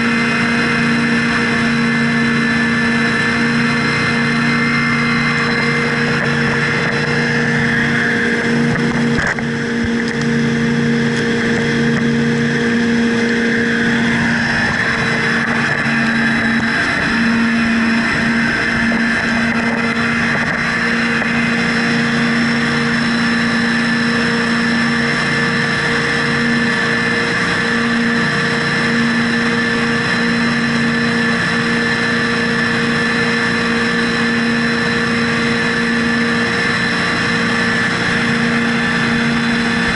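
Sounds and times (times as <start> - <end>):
outboard engines running at high speed: 0.0 - 39.9.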